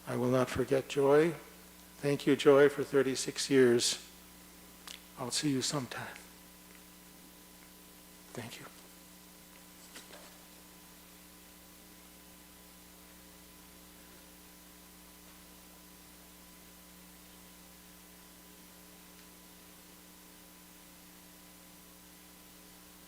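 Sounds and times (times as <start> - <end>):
electrical mains hum: 0.0 - 23.0
faint hiss: 0.0 - 23.0.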